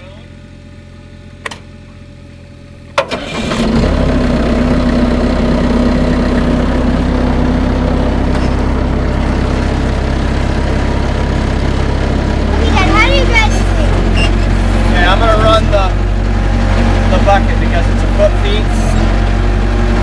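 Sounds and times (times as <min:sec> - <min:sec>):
diesel engine cranking and idling: 0:00.0 - 0:20.0.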